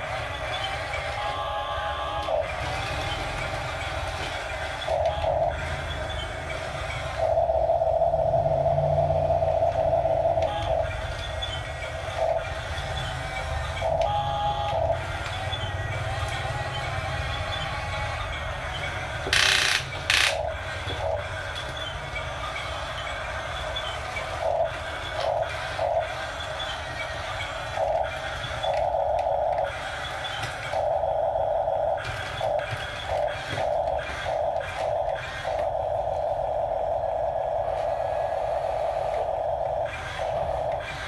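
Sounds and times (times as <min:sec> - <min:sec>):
loud bursts of noise: 0:00.0 - 0:41.0
toy bulldozer motors whirring: 0:00.0 - 0:41.0.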